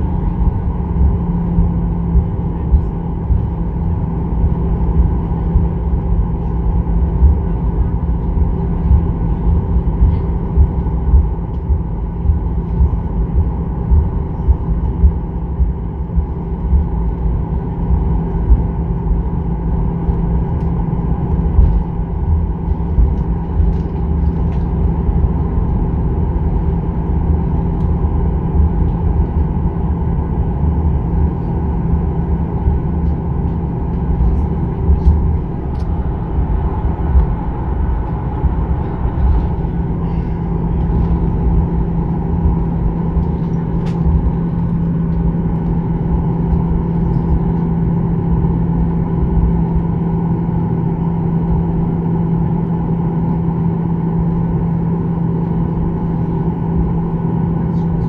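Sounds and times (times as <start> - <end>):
aircraft cabin rumble: 0.0 - 58.0
low thuds of rolling aircraft: 0.0 - 58.0.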